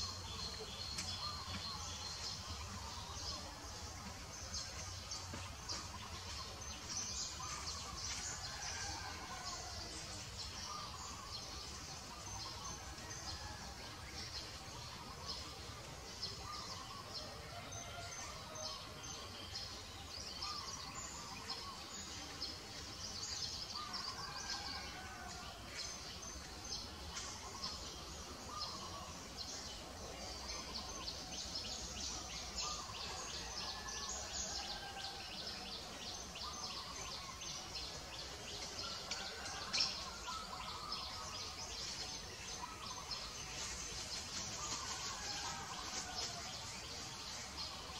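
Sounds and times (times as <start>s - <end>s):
birds chirping: 0.0s - 47.9s
steady background hiss: 0.0s - 47.9s.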